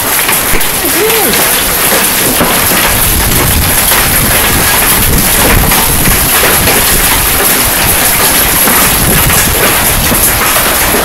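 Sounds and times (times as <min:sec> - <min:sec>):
hail clattering on the ground: 0:00.0 - 0:11.0.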